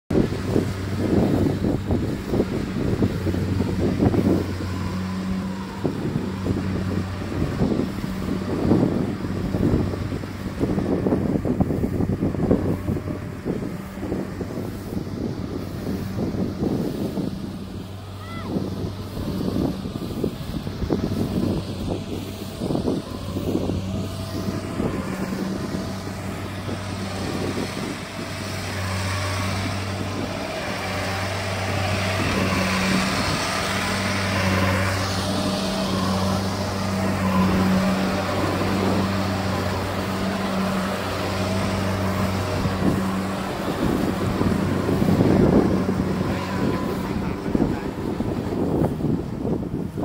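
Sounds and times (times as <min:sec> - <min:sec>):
combine harvester engine humming: 0:00.1 - 0:50.0
wind buffeting microphone: 0:00.1 - 0:50.0.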